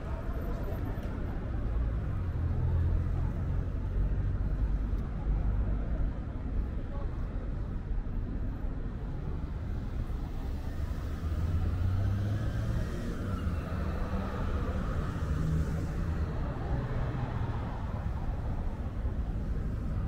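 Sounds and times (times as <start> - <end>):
rumble of passing cars: 0.0 - 20.0.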